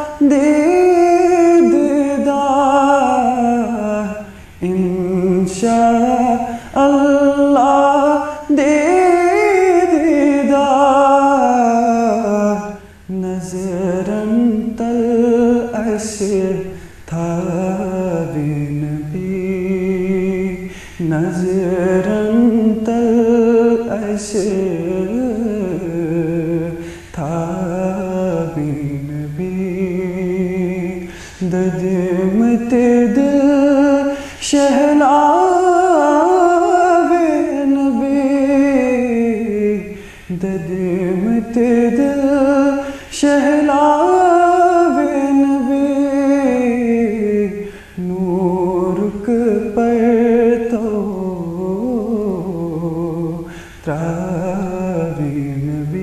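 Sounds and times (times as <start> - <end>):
person singing devotional song: 0.0 - 56.0.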